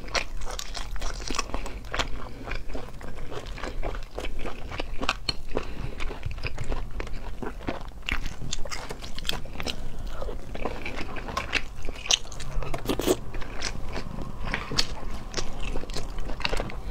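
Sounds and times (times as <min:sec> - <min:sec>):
person biting and chewing: 0:00.0 - 0:16.9.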